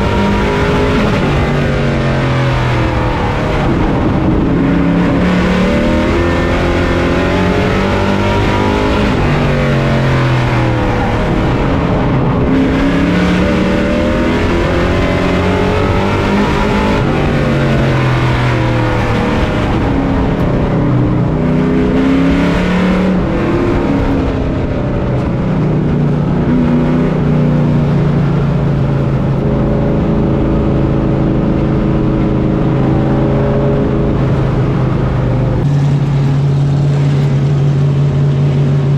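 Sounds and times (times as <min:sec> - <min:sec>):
race truck engine revving: 0:00.0 - 0:38.9.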